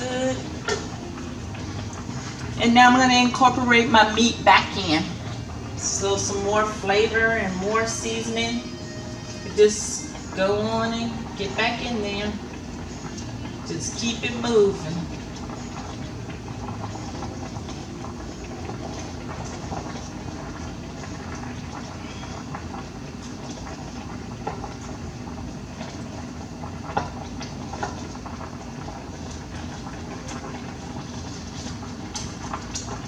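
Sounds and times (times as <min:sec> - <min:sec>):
pot simmering and bubbling: 0:00.0 - 0:33.0.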